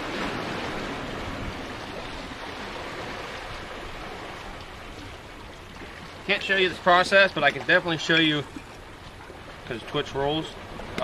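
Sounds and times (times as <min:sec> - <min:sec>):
waves washing against rocks: 0:00.0 - 0:11.0.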